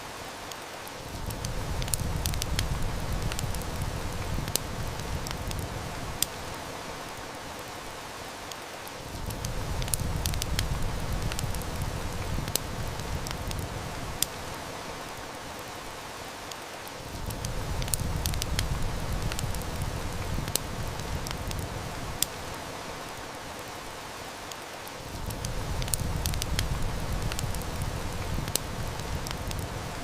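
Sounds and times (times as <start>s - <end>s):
heavy rain hissing: 0.0s - 30.0s
wood fire crackling: 0.1s - 30.0s.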